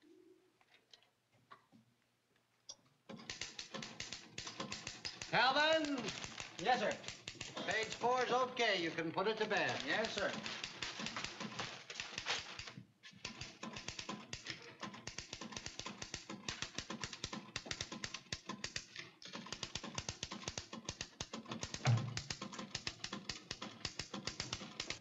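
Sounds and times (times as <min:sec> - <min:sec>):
typewriter keys striking: 0:03.1 - 0:25.0.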